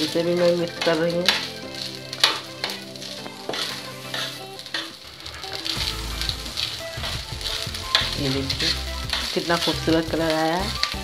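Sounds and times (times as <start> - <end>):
spatula scraping a pan: 0.0 - 10.7
rice sizzling: 0.0 - 11.0.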